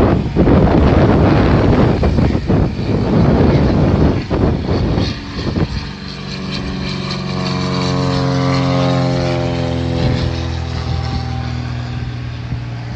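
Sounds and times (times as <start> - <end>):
propeller airplane engine droning: 0.0 - 12.9
wind noise on microphone: 0.0 - 12.9.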